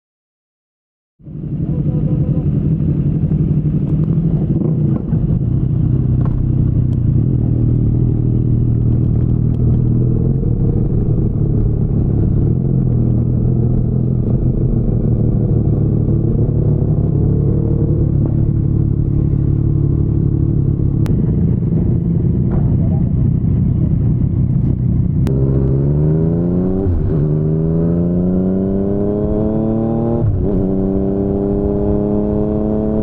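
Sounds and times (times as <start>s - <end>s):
motorcycle engine running: 1.2s - 33.0s.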